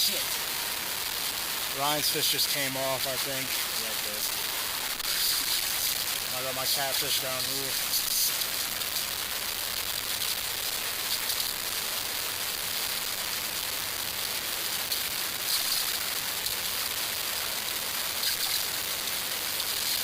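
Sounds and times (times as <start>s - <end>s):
water pouring over a dam: 0.0s - 20.0s.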